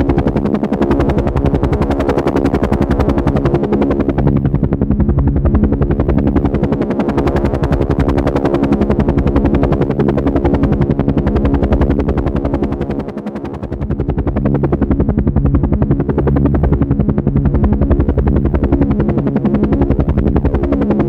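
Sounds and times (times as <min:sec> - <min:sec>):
helicopter rotor and engine: 0:00.0 - 0:21.0.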